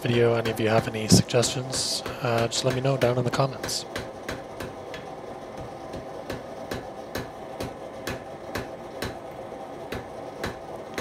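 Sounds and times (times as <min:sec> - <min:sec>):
forge burner and blower roaring: 0:00.0 - 0:11.0.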